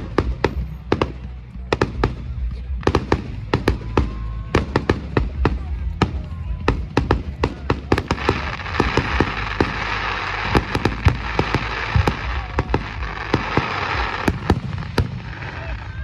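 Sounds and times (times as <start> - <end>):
crackling hiss of fireworks: 0.0 - 16.0
fireworks bangs and pops: 0.0 - 16.0.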